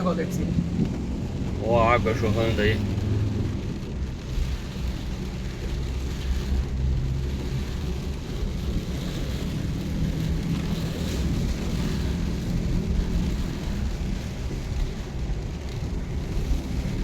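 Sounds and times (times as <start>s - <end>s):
rain hiss on wet road: 0.0s - 17.0s
vehicle engine and road rumble: 0.0s - 17.0s.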